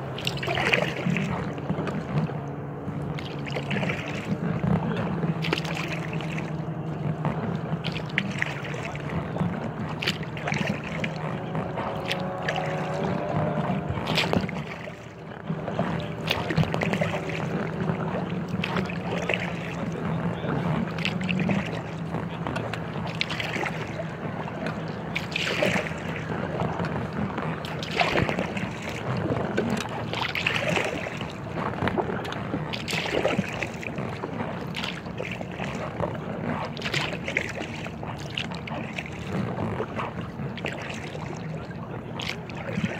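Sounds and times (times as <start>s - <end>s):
kayak paddle splashing: 0.0s - 42.9s
steady low hum: 0.0s - 42.9s
water trickling off paddle: 0.0s - 42.9s.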